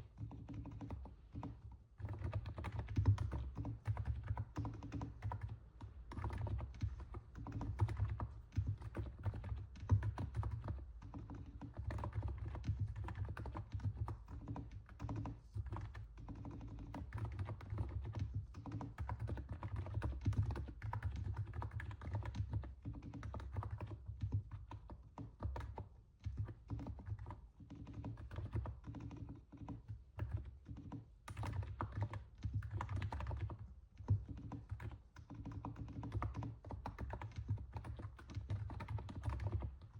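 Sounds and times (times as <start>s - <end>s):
keyboard typing: 0.2s - 39.9s.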